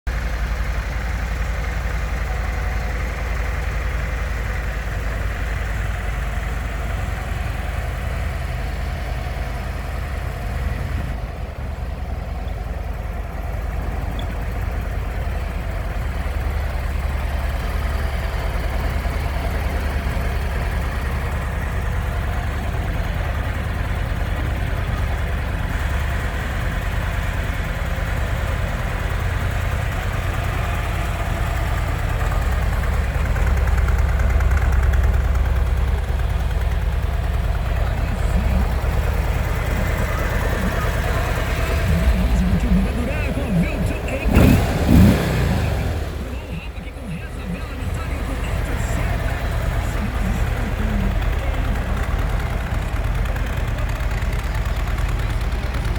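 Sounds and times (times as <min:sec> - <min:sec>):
motorcycle engine idling: 0:00.0 - 0:55.9.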